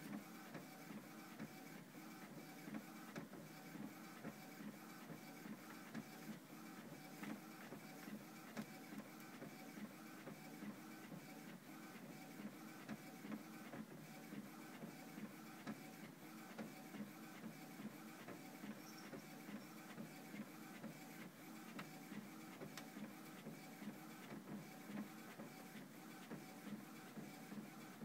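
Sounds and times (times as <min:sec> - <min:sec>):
printer printing: 0:00.0 - 0:28.0.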